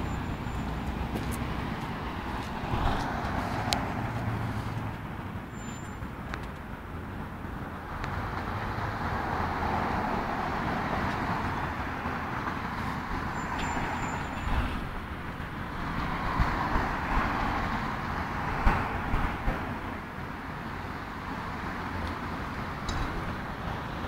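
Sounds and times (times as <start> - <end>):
cars passing: 0.0 - 24.0.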